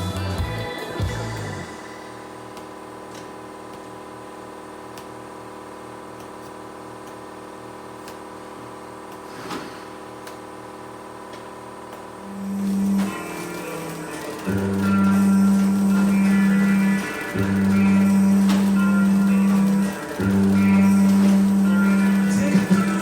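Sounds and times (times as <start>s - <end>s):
steady multi-tone hum: 0.0s - 23.0s.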